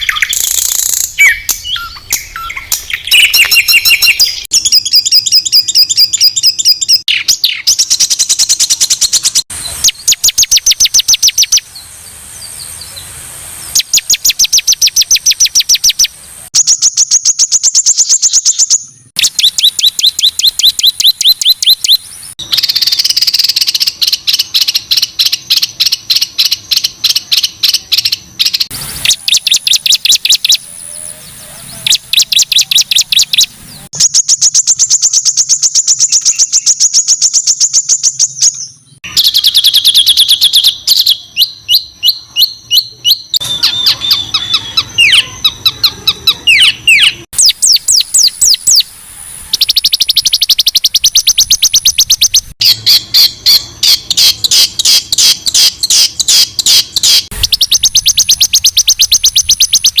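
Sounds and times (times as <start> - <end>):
songbird singing buzzy trills: 0.0 - 60.0.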